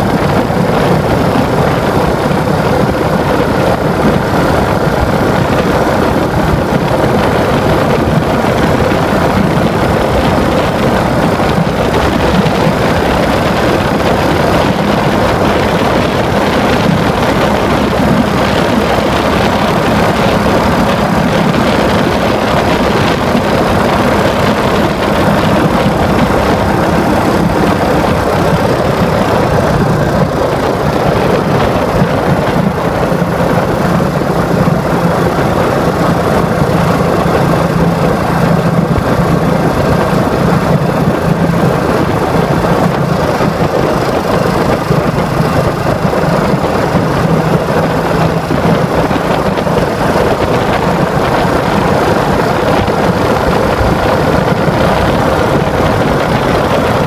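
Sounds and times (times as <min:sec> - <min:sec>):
constant rushing noise: 0:00.0 - 0:57.0
motorcycle engine running: 0:00.0 - 0:57.0.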